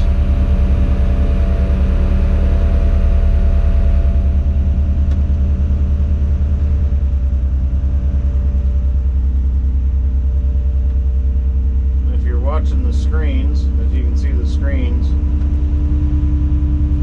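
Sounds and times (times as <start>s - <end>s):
diesel engine drone: 0.0s - 17.0s
whining tones: 0.0s - 17.0s.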